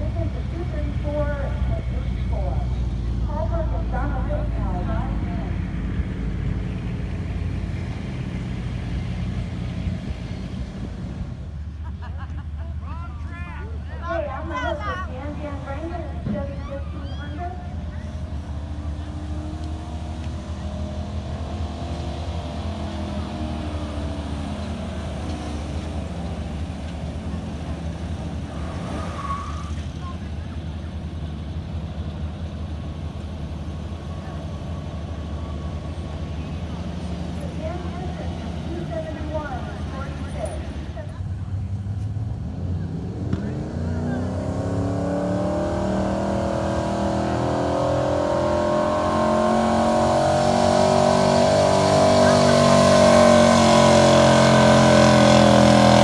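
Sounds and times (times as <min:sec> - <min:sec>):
large vehicle engine running: 0:00.0 - 0:56.0.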